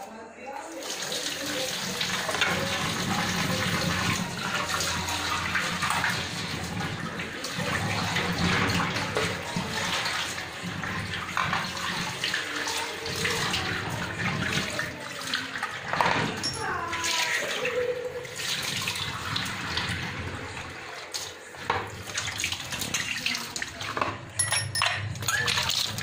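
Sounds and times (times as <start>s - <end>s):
steel cup being rinsed: 0.7s - 26.0s
tap water splashing into sink: 0.8s - 24.3s.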